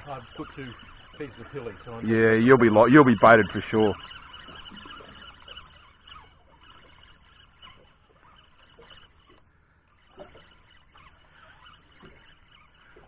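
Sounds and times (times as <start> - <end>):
water lapping against boat hull: 0.0 - 13.0
water plinks and gurgles: 0.0 - 13.0.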